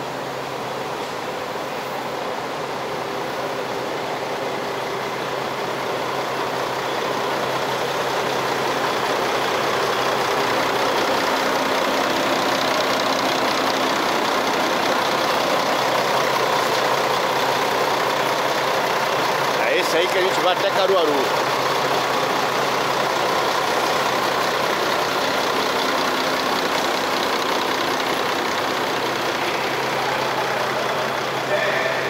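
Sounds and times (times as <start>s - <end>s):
diesel engine idling: 0.0s - 32.0s
fan noise: 0.0s - 32.0s.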